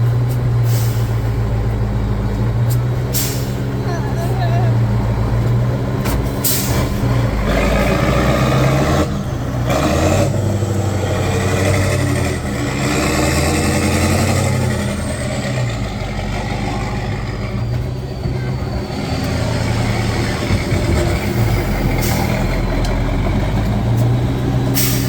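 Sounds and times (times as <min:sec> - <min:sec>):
diesel truck engine revving: 0:00.0 - 0:25.0.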